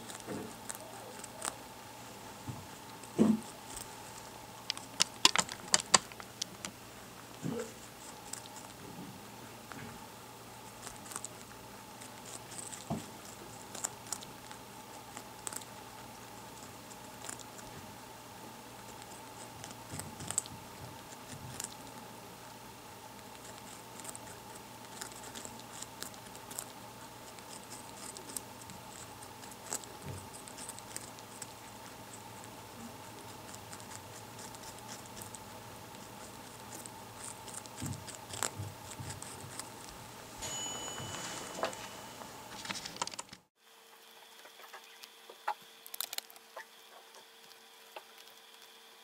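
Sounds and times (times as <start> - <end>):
rabbits chewing carrot: 0.0 - 49.0.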